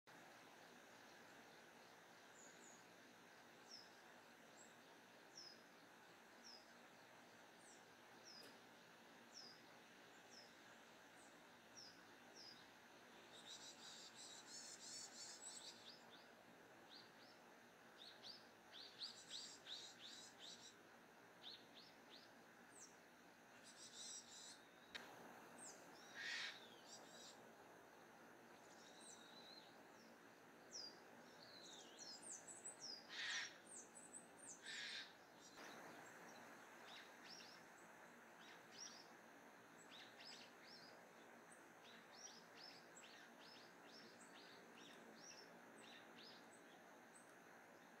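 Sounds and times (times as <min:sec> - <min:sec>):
songbirds chirping: 0:00.1 - 0:48.0.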